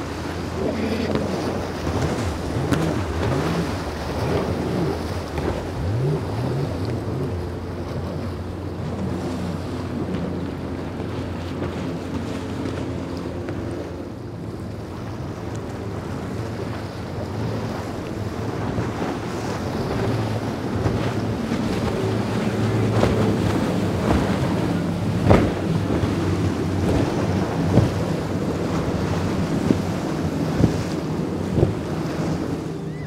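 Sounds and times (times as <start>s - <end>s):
boat engine drone: 0.0s - 33.0s
hull slapping waves: 0.0s - 33.0s
wind on microphone: 0.0s - 33.0s.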